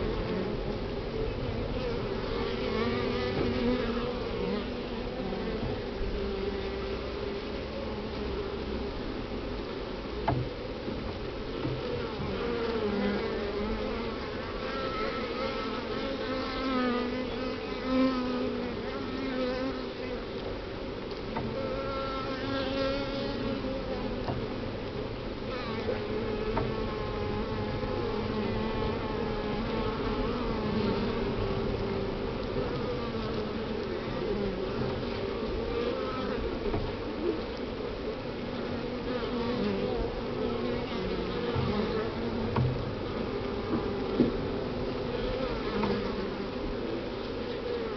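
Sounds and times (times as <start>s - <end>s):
bees buzzing: 0.0s - 8.8s, 11.7s - 20.2s, 25.4s - 47.9s.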